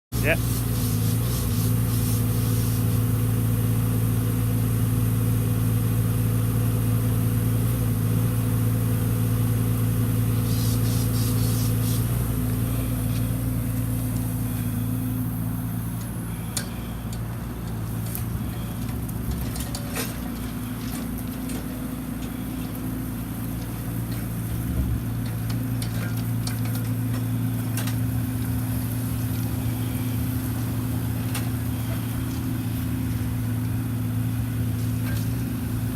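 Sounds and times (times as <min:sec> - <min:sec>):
small diesel engine running: 0:00.1 - 0:35.9.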